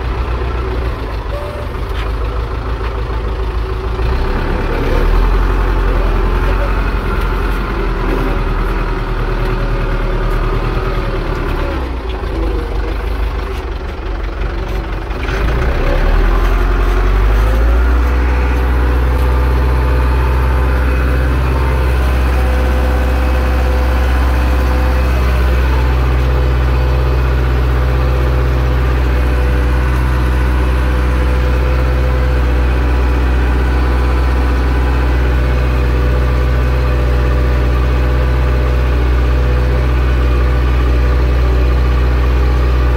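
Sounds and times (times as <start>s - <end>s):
tractor diesel engine droning: 0.0s - 42.9s.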